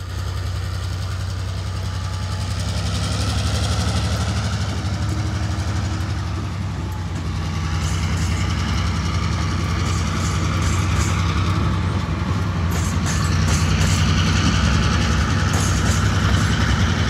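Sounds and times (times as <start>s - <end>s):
locomotive engine rumble: 0.0s - 17.0s
wheels clicking on rails: 0.0s - 17.0s.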